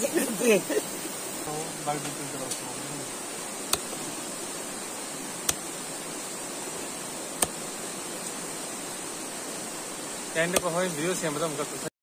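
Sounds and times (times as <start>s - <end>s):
rushing water: 0.0s - 11.9s.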